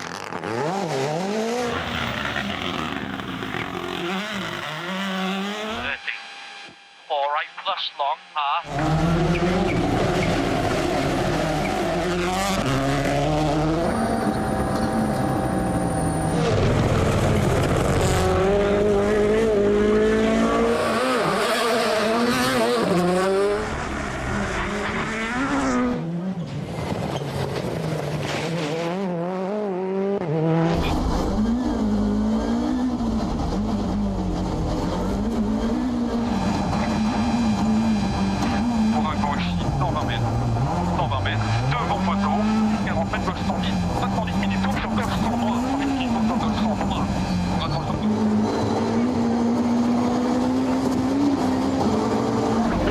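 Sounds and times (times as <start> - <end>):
rally car engines at full throttle: 0.0 - 52.9.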